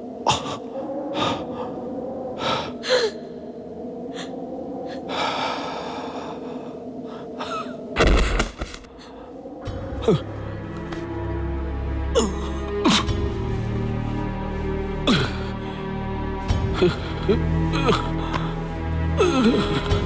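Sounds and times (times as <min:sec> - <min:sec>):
low drone: 0:00.0 - 0:20.0.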